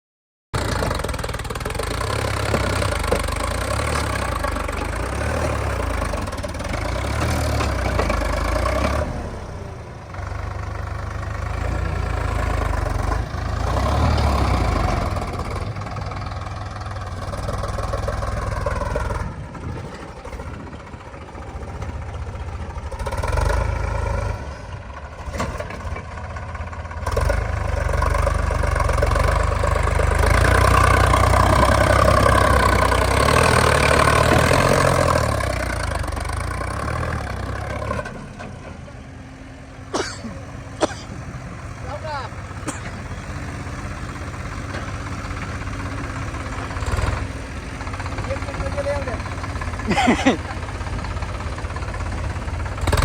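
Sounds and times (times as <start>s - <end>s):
diesel engine revving: 0.6s - 53.0s.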